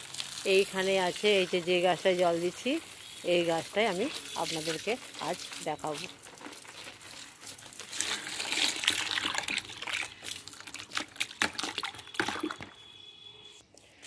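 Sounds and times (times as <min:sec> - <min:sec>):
garden hose spraying water: 0:00.0 - 0:12.6
water splashing on leaves: 0:00.0 - 0:12.8.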